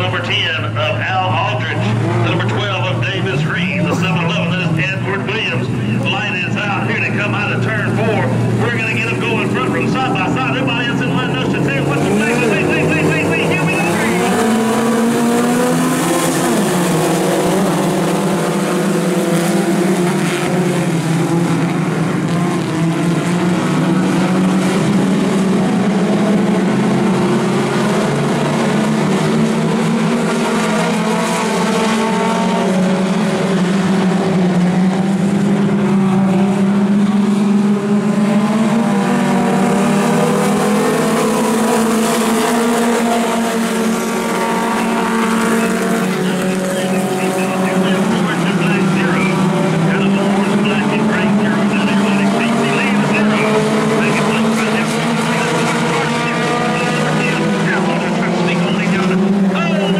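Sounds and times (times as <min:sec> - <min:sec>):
race car engines droning: 0:00.0 - 0:59.9.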